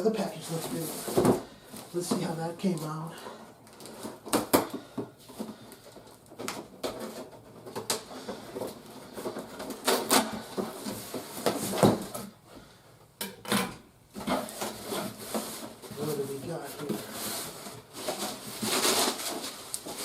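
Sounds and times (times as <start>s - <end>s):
cardboard and plastic packaging rustling: 0.0s - 12.8s, 14.1s - 20.0s.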